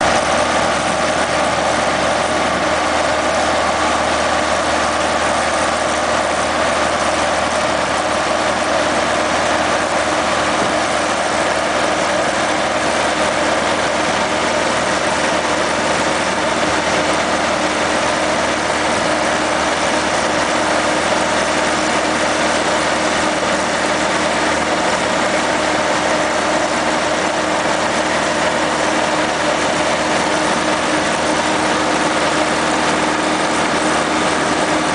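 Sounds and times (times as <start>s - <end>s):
machinery engine running under load: 0.0s - 34.9s.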